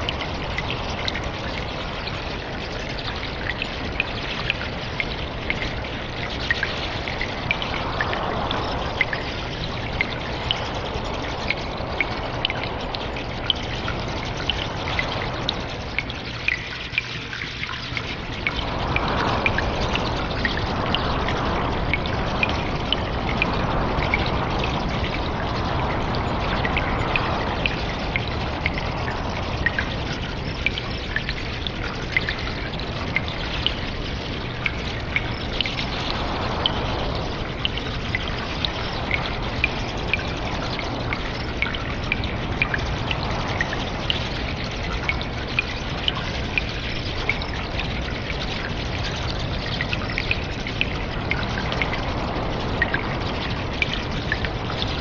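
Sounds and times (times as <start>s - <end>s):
trickle of running water: 0.0s - 55.0s
water dripping in cave: 0.0s - 55.0s.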